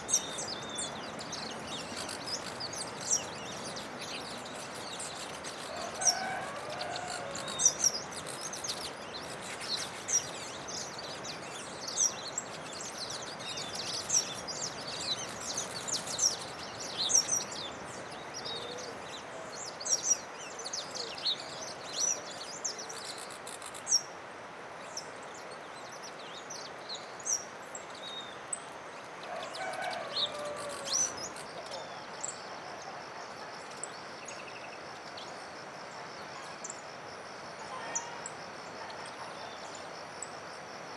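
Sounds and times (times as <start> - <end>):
faint high hiss: 0.0 - 40.9
songbirds chirping: 0.0 - 40.9.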